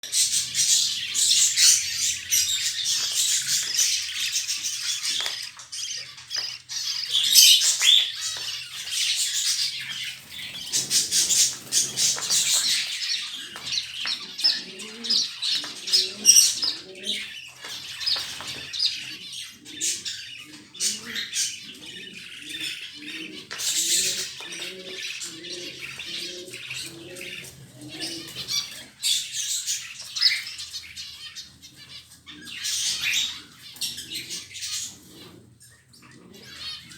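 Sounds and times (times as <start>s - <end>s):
budgerigars chattering and chirping: 0.0s - 36.9s.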